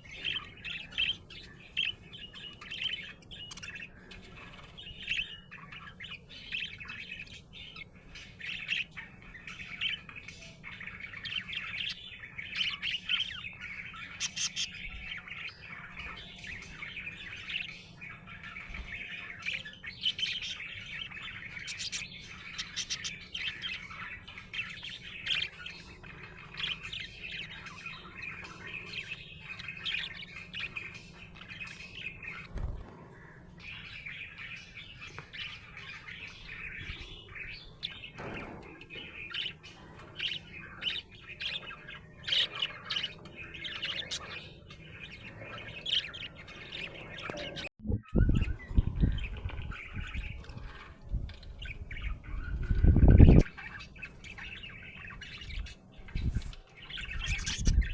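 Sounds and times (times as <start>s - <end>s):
budgerigar chirping and warbling: 0.0s - 57.9s.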